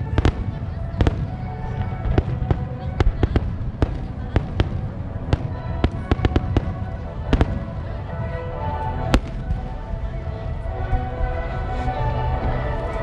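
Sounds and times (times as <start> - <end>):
fireworks sharp bangs: 0.0 - 11.4
low rumble of distant explosions: 0.0 - 13.0.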